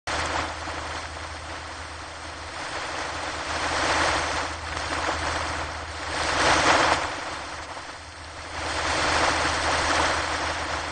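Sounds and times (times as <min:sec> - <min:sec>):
ocean surf breaking: 0:00.1 - 0:10.9.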